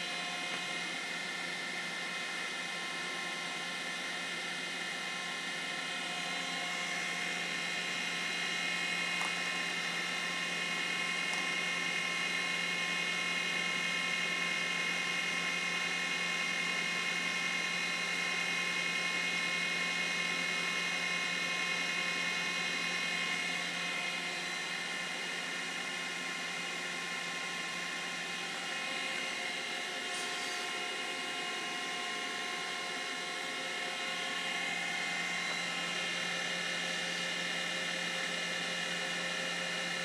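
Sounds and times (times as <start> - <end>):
machining center high whine: 0.0 - 40.0.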